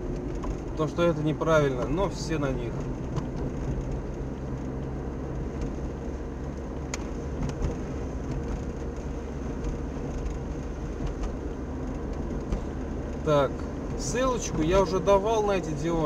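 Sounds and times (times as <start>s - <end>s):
car engine hum: 0.0s - 16.0s
tyre noise on wet road: 0.0s - 16.0s.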